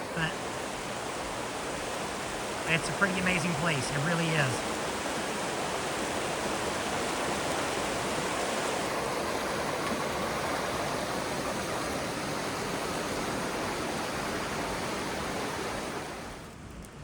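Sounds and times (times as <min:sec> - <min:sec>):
creek rapids rushing: 0:00.0 - 0:16.5.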